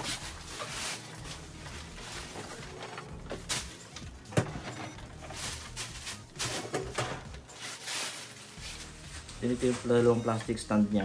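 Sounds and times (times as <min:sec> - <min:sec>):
rubbing and rustling: 0:00.0 - 0:10.2.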